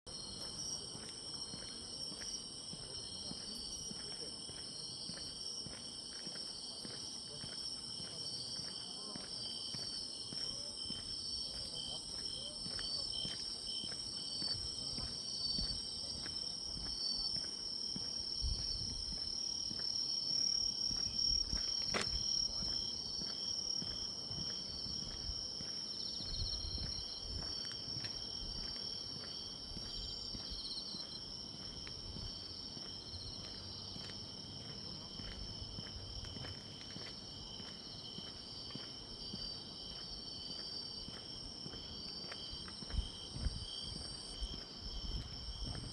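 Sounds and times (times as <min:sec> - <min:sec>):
crickets chirping chorus: 0:00.1 - 0:45.9
soft footsteps: 0:00.1 - 0:45.9.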